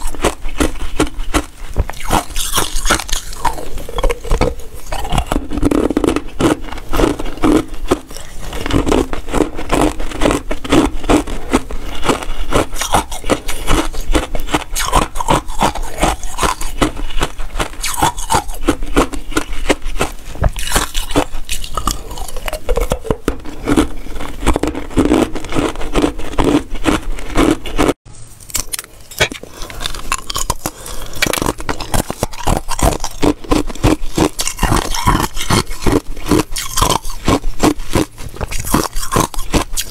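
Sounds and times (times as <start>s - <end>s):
biting and crunching ice: 0.0s - 39.9s.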